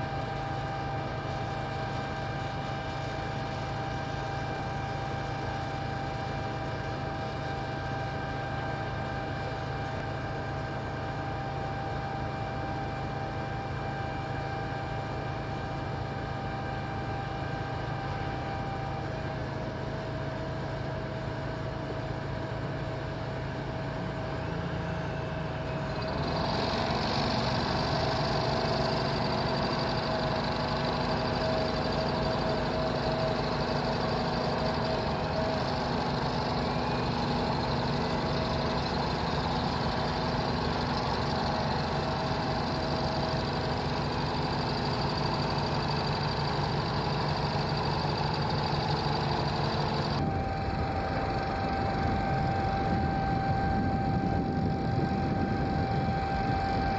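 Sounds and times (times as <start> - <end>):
construction machine engine running: 0.0 - 56.9.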